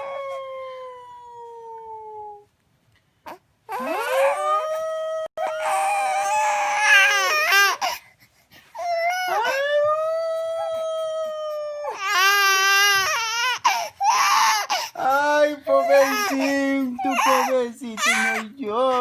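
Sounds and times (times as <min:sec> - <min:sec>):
baby crying: 0:00.0 - 0:02.4, 0:03.3 - 0:08.1, 0:08.8 - 0:19.0.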